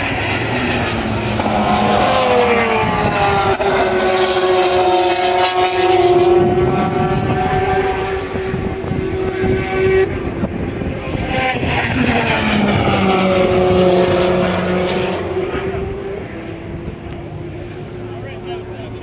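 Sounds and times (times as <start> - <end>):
race car passing at speed: 0.0 - 19.0.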